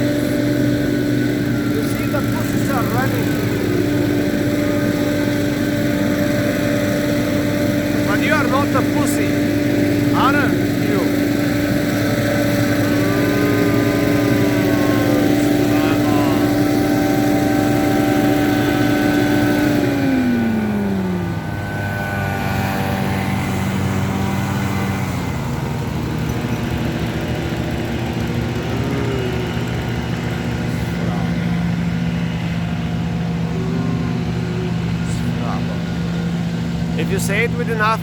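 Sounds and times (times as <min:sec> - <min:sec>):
engine slowing down: 0:00.0 - 0:38.0.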